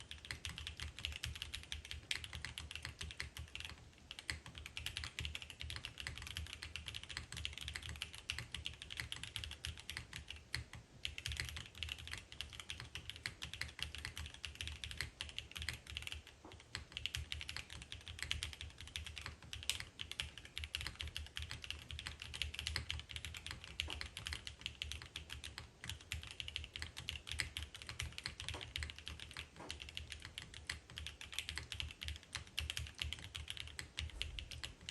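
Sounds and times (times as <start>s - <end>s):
fast typing on mechanical keyboard: 0.0s - 34.9s.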